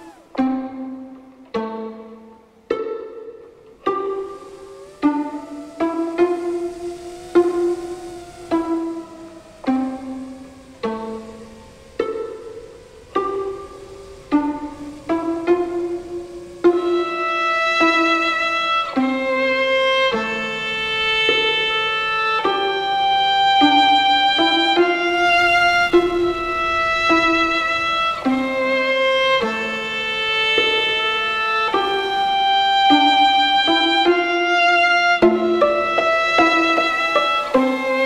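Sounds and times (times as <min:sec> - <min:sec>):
violin playing long held notes: 0:00.0 - 0:38.0.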